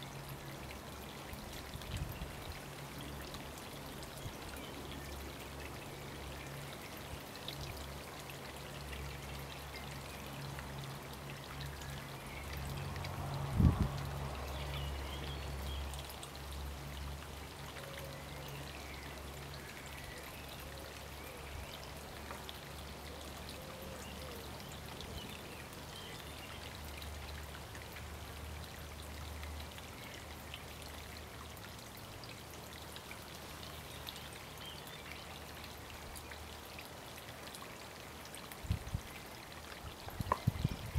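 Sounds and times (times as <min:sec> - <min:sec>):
trickle of running water: 0:00.0 - 0:40.9.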